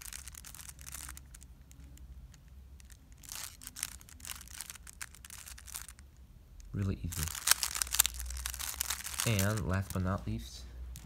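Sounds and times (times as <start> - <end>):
puzzle cube clicking turns: 0.0 - 6.2, 7.2 - 10.0.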